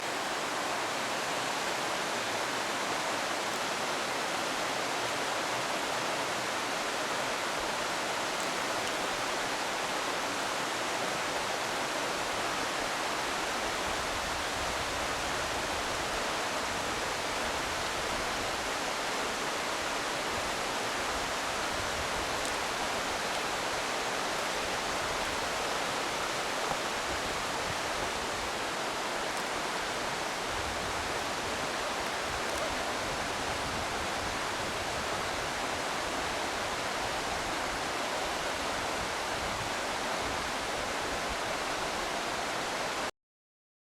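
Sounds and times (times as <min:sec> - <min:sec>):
rushing water: 0:00.0 - 0:43.1.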